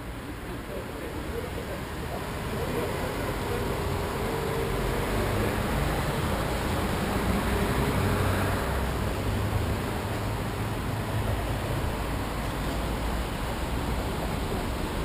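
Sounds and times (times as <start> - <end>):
city street hiss: 0.0 - 15.0.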